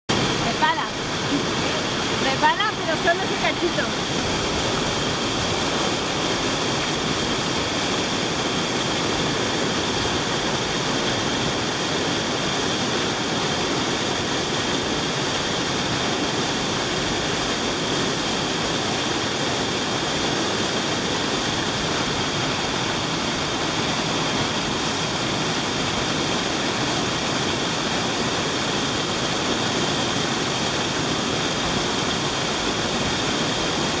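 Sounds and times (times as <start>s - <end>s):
waterfall rushing over rock: 0.1s - 34.0s.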